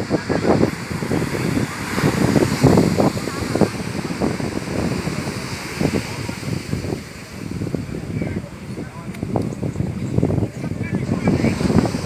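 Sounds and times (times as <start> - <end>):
people calling and talking: 0.0 - 12.0
surf breaking: 0.0 - 12.0
wind buffeting microphone: 0.0 - 12.0.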